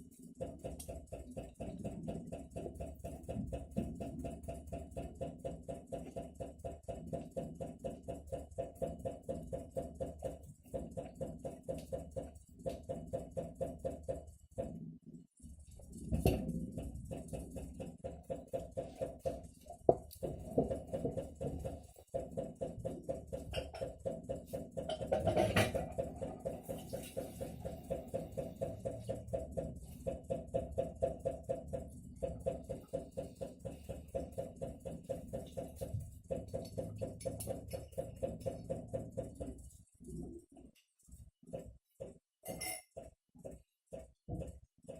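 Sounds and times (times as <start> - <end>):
refrigerator knocking: 0.4 - 14.8, 16.0 - 39.7.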